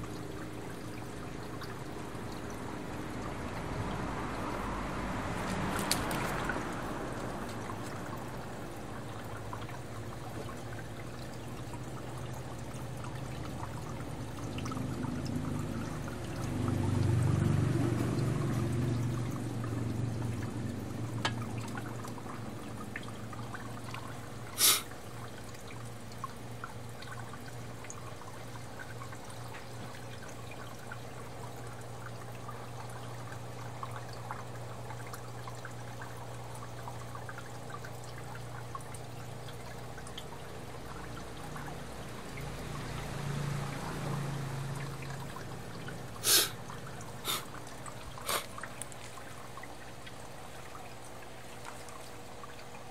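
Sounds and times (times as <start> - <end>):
aquarium water trickling: 0.0 - 52.9.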